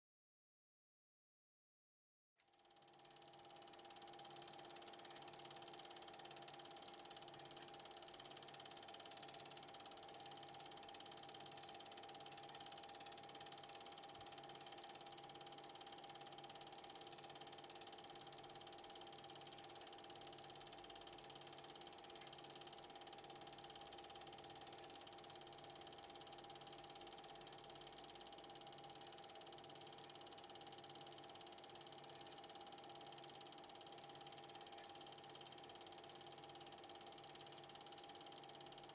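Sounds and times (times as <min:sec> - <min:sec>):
film projector whirring: 0:02.4 - 0:38.9.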